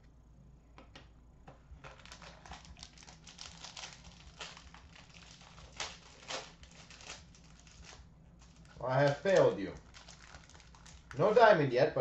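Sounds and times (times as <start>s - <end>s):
packaging crinkling: 1.8s - 11.5s.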